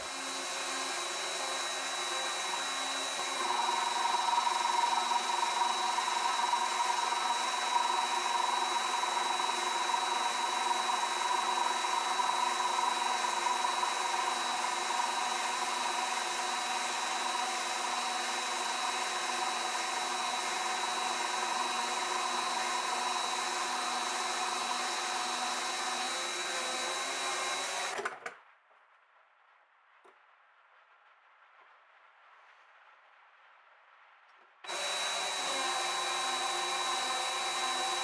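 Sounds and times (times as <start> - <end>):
metal lathe motor whine: 0.0 - 28.0, 34.7 - 38.0.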